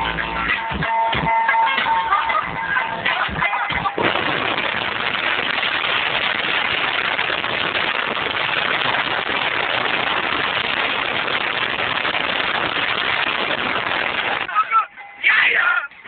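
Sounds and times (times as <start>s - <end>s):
wind and road noise in car: 2.5s - 16.0s.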